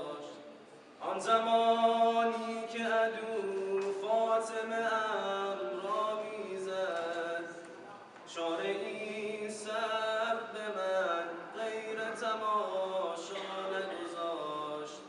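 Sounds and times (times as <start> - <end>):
men chanting a cappella: 0.0 - 7.7, 8.3 - 15.0.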